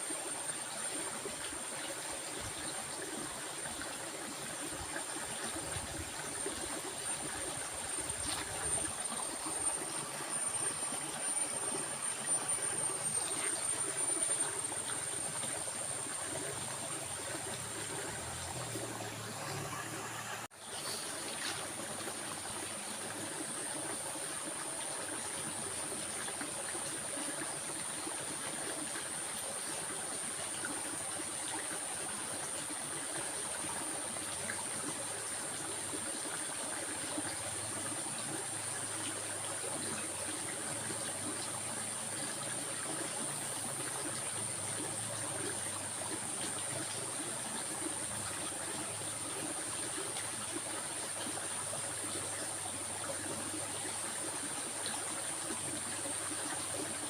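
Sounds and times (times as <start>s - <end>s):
stream of water trickling: 0.0s - 57.0s.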